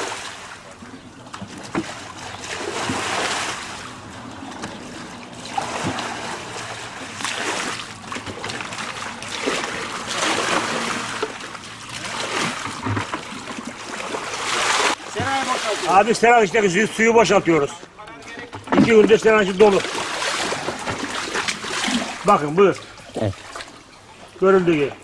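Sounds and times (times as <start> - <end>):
bucket scooping water: 0.0 - 25.0
water splashing from buckets: 0.0 - 25.0.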